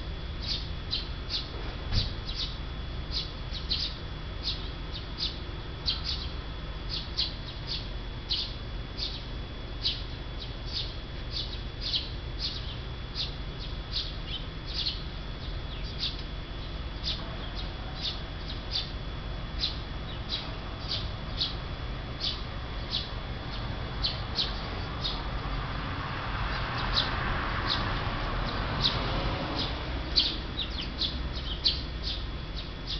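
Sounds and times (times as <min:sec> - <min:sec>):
low steady rumble: 0:00.0 - 0:32.9
small bird chirping: 0:00.4 - 0:25.4, 0:26.4 - 0:32.9.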